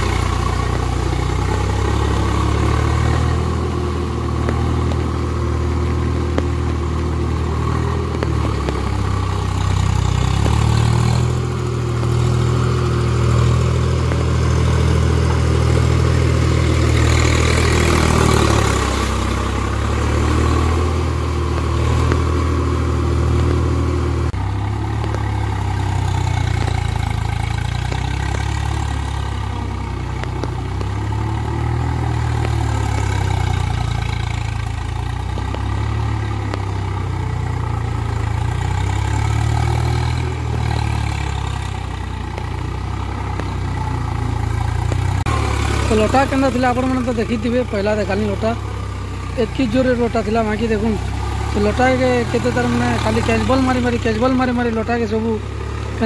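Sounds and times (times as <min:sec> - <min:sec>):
tractor diesel engine running: 0:00.0 - 0:56.0
wheels churning mud: 0:00.0 - 0:56.0.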